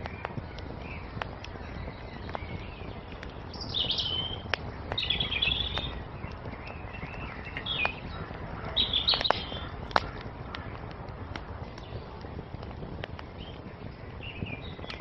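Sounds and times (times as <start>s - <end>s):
songbirds chirping: 0.0s - 15.0s
wood fire crackling: 0.0s - 15.0s.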